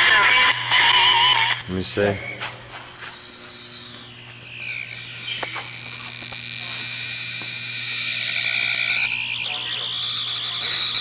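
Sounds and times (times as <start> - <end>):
high electronic whine: 0.0 - 11.0
low electrical hum: 0.0 - 11.0.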